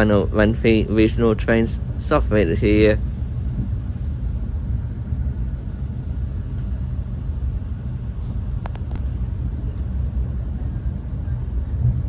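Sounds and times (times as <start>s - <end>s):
train rumble on board: 0.0s - 12.0s.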